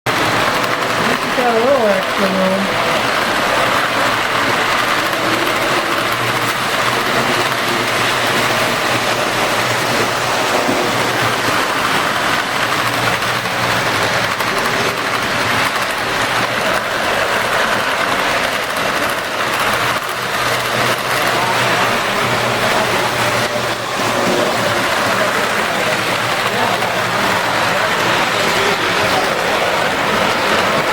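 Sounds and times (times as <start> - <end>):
model train wheels whirring on track: 0.1 - 30.9.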